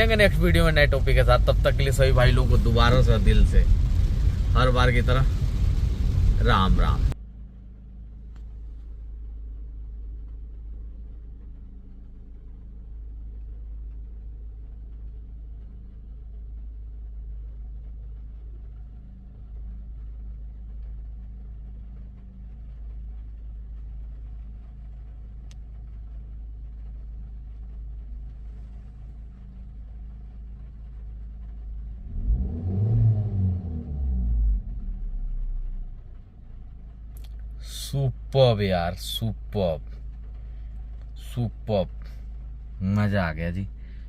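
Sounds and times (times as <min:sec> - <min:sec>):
car engine humming: 0:00.0 - 0:44.0
low rumble: 0:00.0 - 0:44.0.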